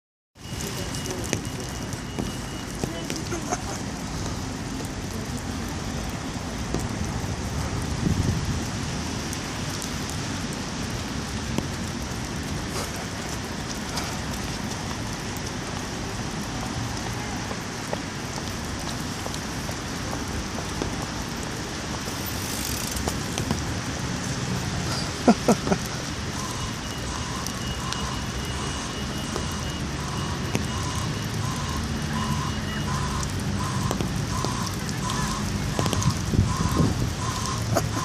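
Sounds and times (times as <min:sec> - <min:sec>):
low traffic rumble: 0:00.4 - 0:38.0.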